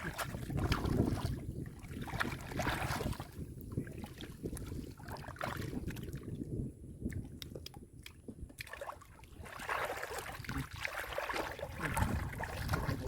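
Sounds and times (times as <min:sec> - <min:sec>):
water splashing in shallow mud: 0:00.0 - 0:13.0.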